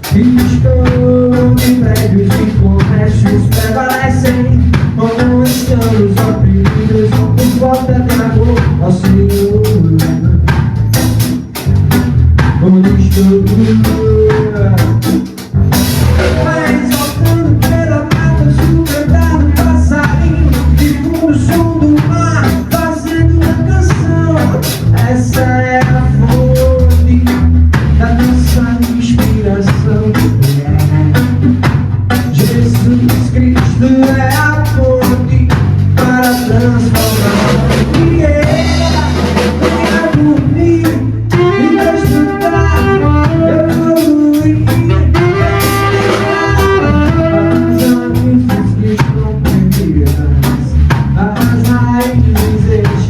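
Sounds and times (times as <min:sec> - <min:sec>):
band playing a song: 0:00.0 - 0:53.0
drum kit beat: 0:00.0 - 0:53.0.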